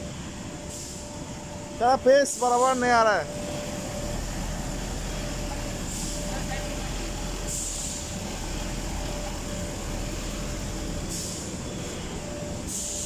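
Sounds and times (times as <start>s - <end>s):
forklift engine droning: 0.0s - 13.0s
thin steady whine: 0.0s - 13.0s.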